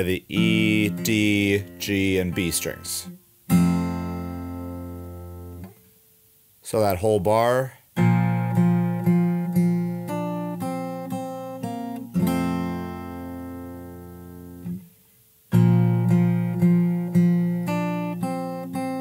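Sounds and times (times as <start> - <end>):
fingerstyle acoustic guitar: 0.0 - 6.0, 7.9 - 19.0.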